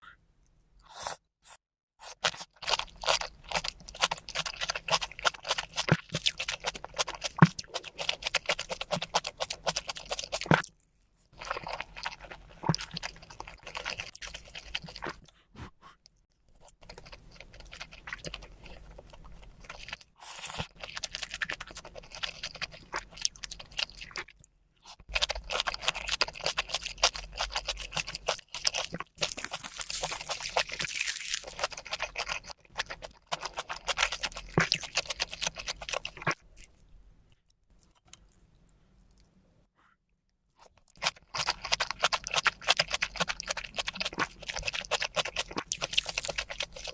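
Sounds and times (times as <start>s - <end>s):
crunchy chewing: 2.0s - 39.4s, 40.5s - 46.9s.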